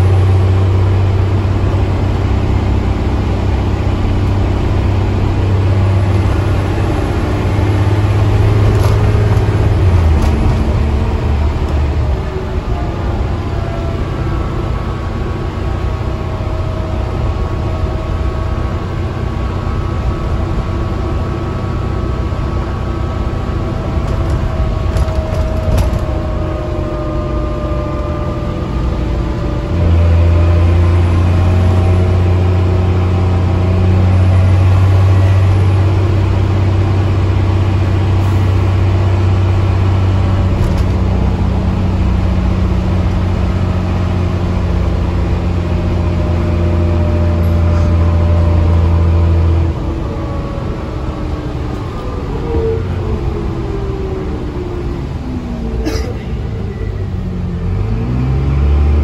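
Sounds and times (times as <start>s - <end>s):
bus engine drone: 0.0s - 59.0s
deep engine hum: 0.0s - 59.0s.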